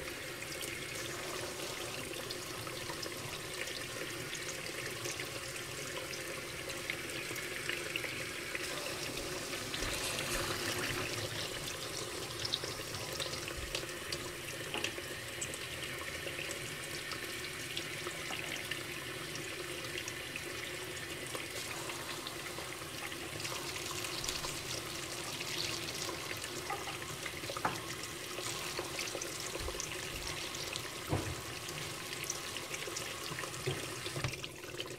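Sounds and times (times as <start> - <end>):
water running under water: 0.0 - 18.9, 21.2 - 34.9.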